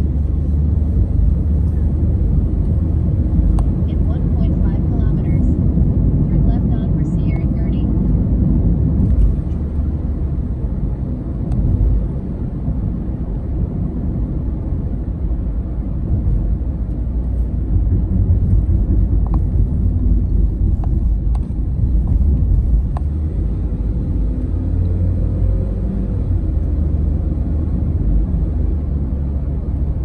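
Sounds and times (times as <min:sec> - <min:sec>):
tyre and engine rumble: 0:00.0 - 0:30.0.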